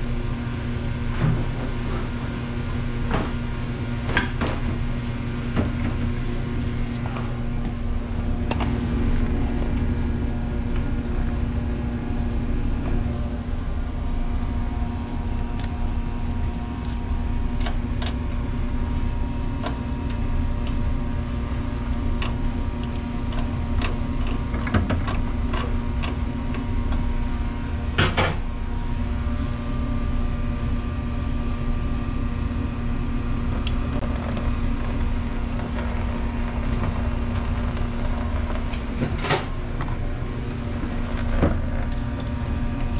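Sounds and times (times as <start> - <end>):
dishwasher motor humming: 0.0 - 42.9.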